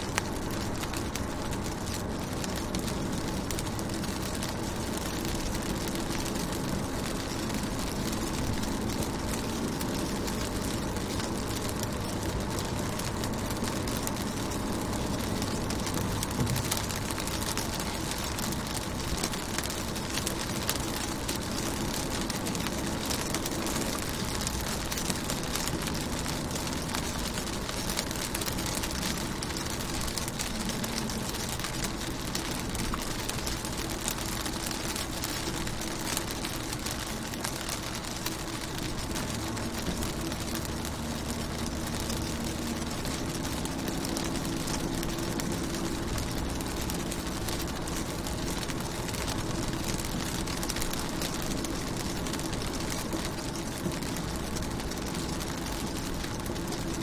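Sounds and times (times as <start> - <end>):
rain on car windows: 0.0 - 57.0.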